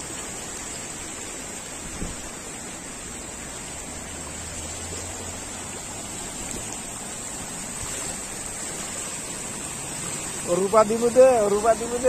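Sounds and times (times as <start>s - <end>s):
floodwater rushing and churning: 0.0s - 12.0s.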